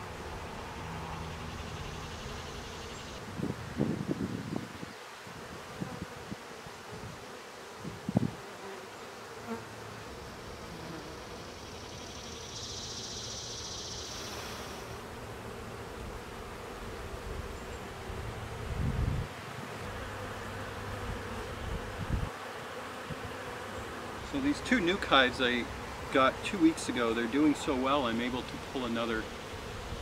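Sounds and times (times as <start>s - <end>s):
honeybees buzzing: 0.0s - 30.0s.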